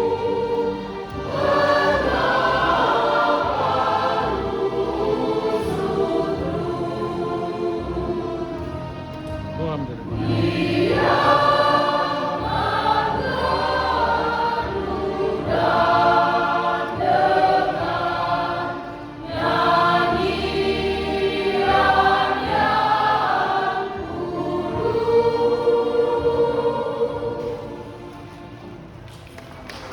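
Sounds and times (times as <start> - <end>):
choir singing: 0.0 - 9.4, 10.0 - 29.0.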